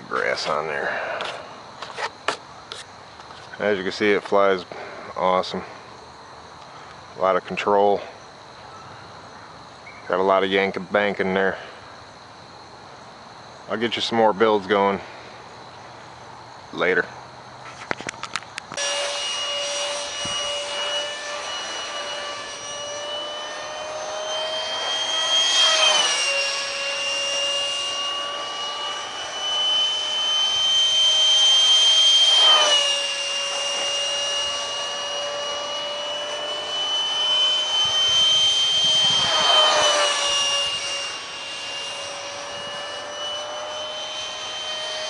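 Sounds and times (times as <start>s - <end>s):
jet fan whining in flight: 0.0s - 45.0s.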